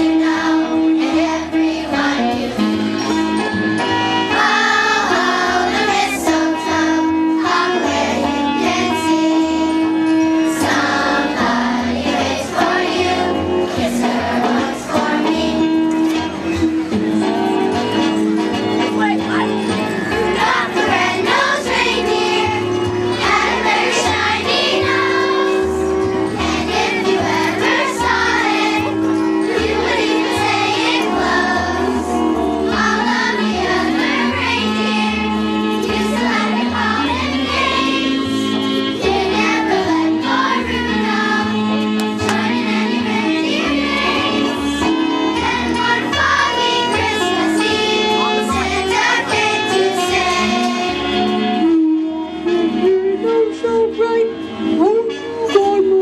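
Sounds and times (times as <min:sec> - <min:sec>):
children's choir singing: 0:00.0 - 0:18.2, 0:20.1 - 0:51.7
instrumental accompaniment with bass: 0:00.0 - 0:56.0.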